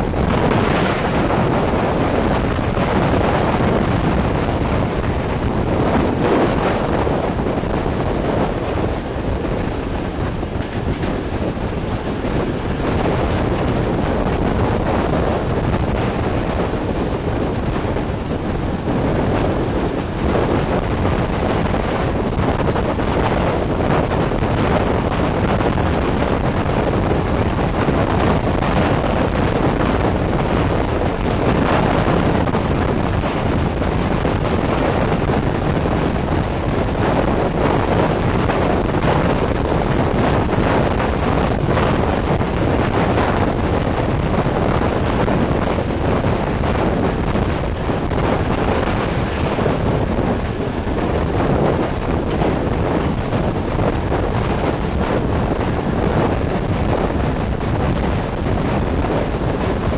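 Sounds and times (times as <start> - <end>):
train rumble: 0.0 - 59.9
wind buffeting microphone: 0.0 - 59.9.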